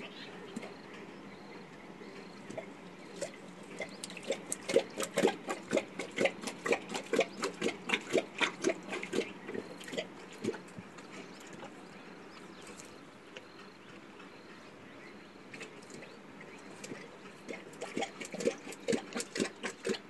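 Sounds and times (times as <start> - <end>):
lion lapping water: 0.0 - 20.0.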